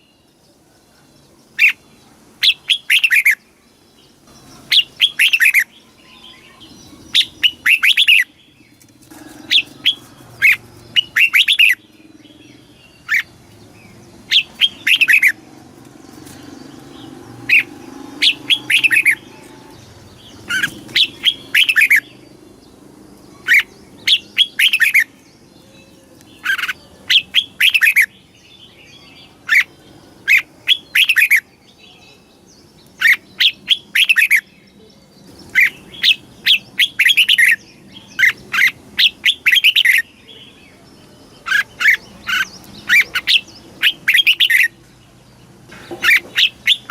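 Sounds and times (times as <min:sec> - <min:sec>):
bulbul singing: 0:00.0 - 0:46.9.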